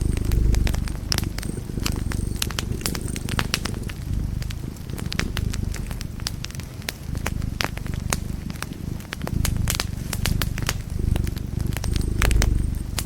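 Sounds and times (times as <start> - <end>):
fire crackles and pops: 0.0 - 13.0
fire flames rumbling: 0.0 - 13.0.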